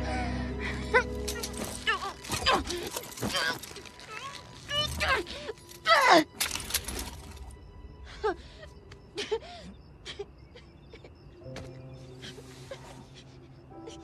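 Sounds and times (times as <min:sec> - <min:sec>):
soft film score music: 0:00.0 - 0:14.0.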